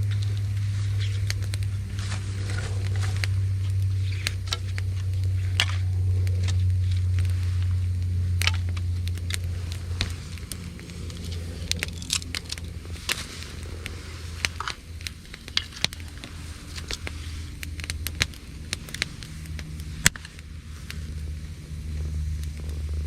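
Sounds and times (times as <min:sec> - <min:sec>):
campfire crackling and popping: 0:00.0 - 0:23.0
steady low hum: 0:00.0 - 0:23.0.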